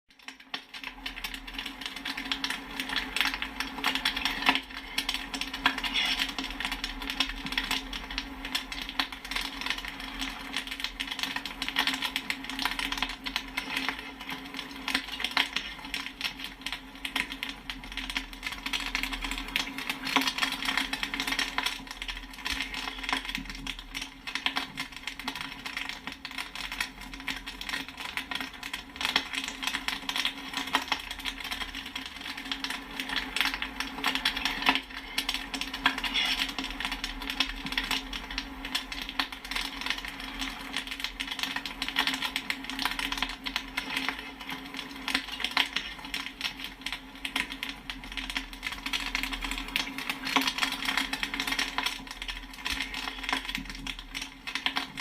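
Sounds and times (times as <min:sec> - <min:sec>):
popcorn popping: 0:00.1 - 0:55.0.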